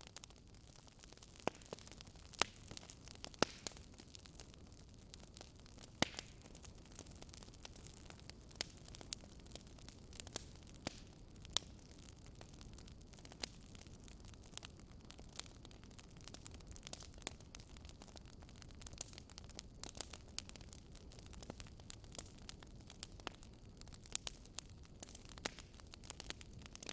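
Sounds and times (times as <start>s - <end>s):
low rumble of flames: 0.0s - 26.9s
wood fire crackling and popping: 0.0s - 26.9s.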